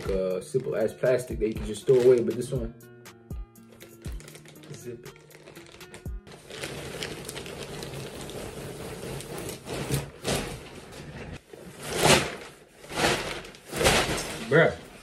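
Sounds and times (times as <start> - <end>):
plastic bag and jacket rustling: 0.0 - 2.6, 3.6 - 15.0.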